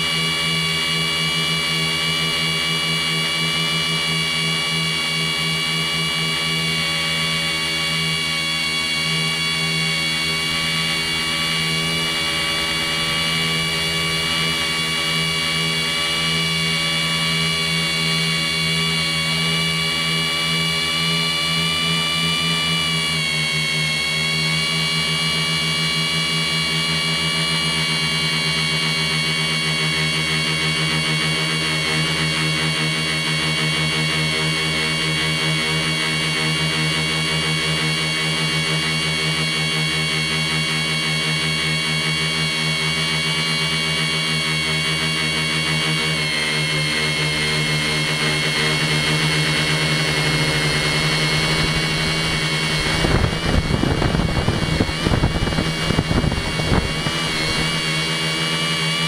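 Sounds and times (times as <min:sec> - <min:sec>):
electric motors and propellers whining: 0:00.0 - 0:59.0.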